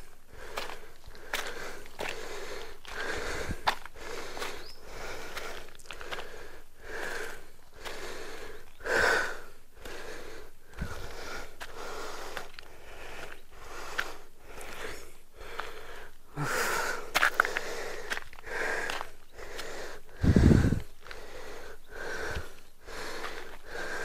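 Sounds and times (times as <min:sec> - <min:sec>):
person breathing hard: 0:00.0 - 0:24.0.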